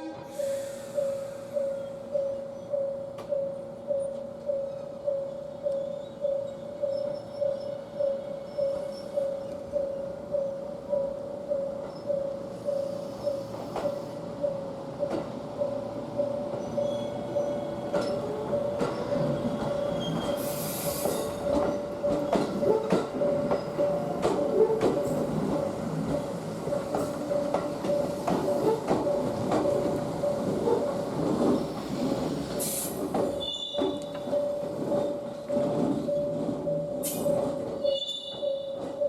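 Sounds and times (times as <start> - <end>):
level crossing warning bell: 0.0 - 32.6, 33.2 - 39.0
train wheels squealing and clicking: 0.2 - 39.0.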